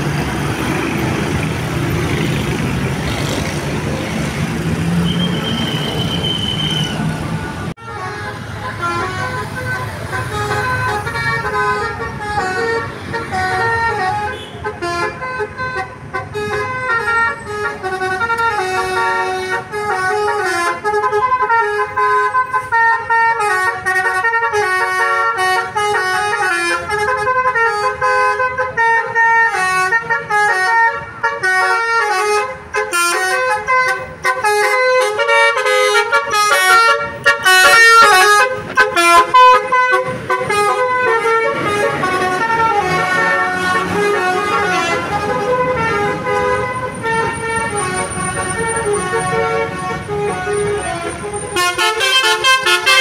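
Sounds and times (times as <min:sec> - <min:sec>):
musical air horn tune: 0:07.8 - 0:53.0.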